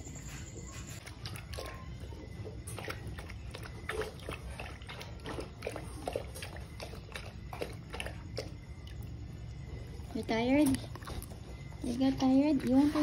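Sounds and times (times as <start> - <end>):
dog lapping water: 1.0 - 13.0.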